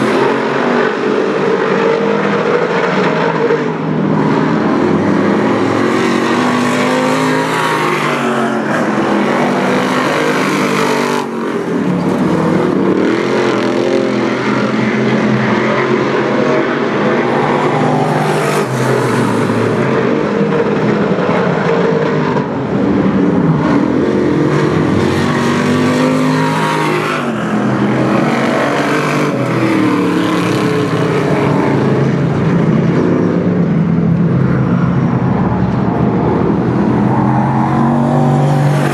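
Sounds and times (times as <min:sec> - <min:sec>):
race car engines running hard: 0:00.0 - 0:38.9.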